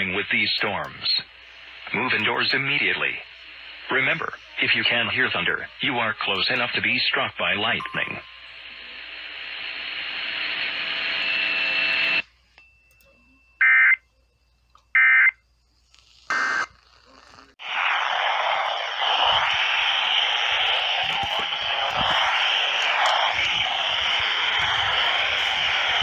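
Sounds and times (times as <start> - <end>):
radio hiss: 0.0 - 12.2, 16.3 - 26.0.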